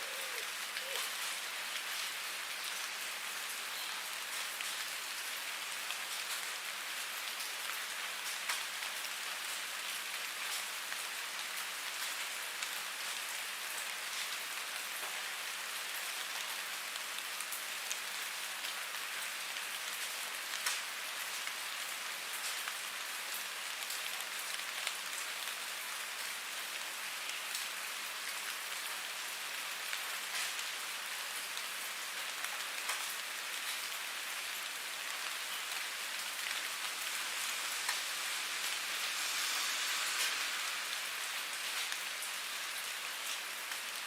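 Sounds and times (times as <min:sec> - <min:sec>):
rain falling: 0:00.0 - 0:44.0.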